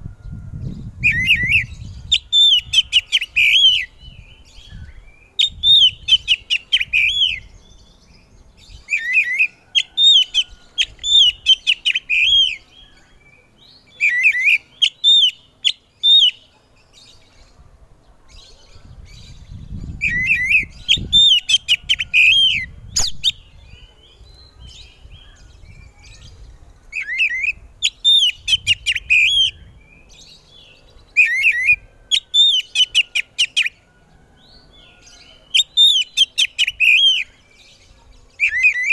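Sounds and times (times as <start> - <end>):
bird singing whistled notes: 0.1 - 16.5, 18.4 - 33.8, 34.5 - 38.9.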